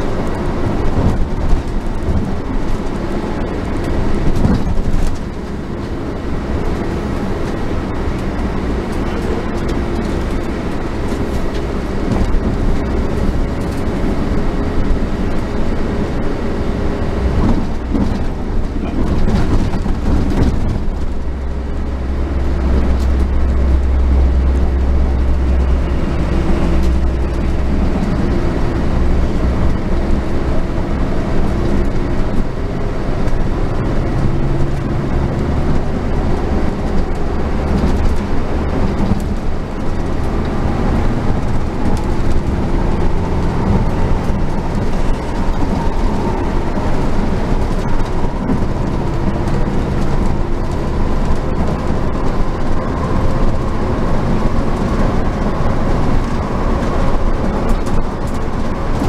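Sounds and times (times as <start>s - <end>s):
bus engine drone: 0.0s - 59.0s
road noise: 0.0s - 59.0s.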